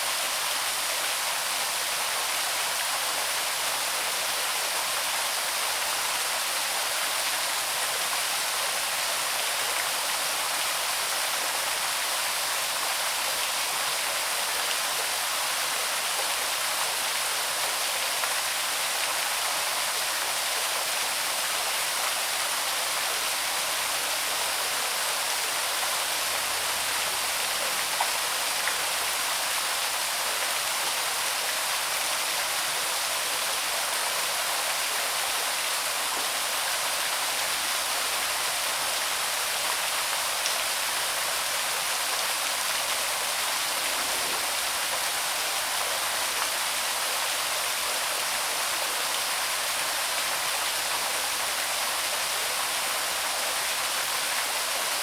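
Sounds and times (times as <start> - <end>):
small waterfall splashing: 0.0 - 55.0.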